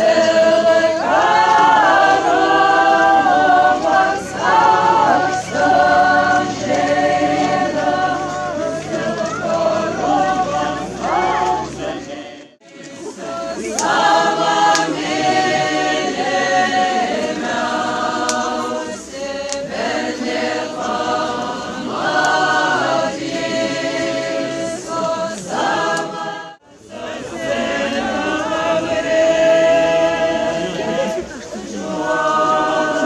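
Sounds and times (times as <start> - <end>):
group of voices singing unaccompanied: 0.0 - 33.0.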